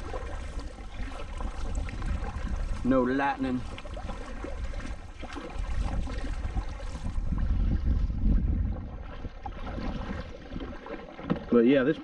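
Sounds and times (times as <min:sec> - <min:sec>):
wind buffeting microphone: 0:00.0 - 0:11.6
kayak paddle splashing water: 0:00.0 - 0:12.0.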